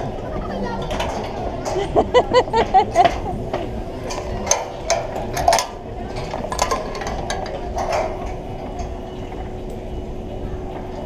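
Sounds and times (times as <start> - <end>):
wind rumble: 0.0 - 11.0
metal safety gear clinking: 0.8 - 9.8.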